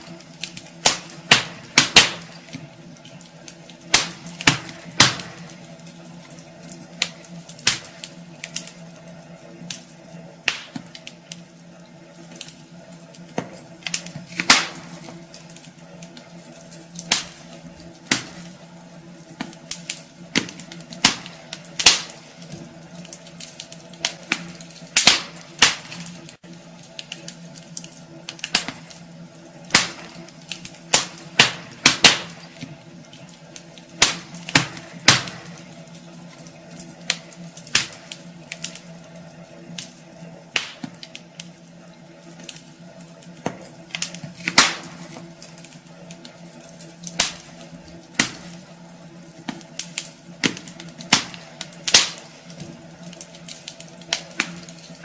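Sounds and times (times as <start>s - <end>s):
logs crackling in fireplace: 0.0s - 55.0s.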